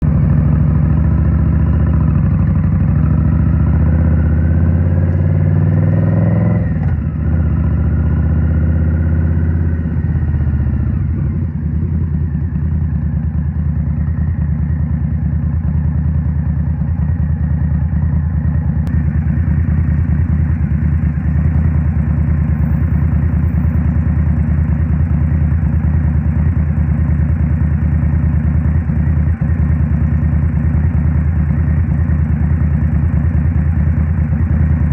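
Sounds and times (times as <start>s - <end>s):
motorcycle engine: 0.0s - 34.9s.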